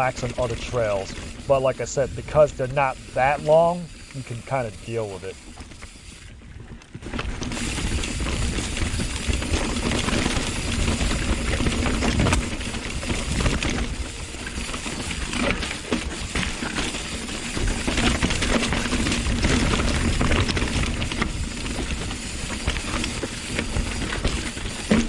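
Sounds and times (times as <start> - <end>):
bike chain and frame rattling: 0.0 - 25.0.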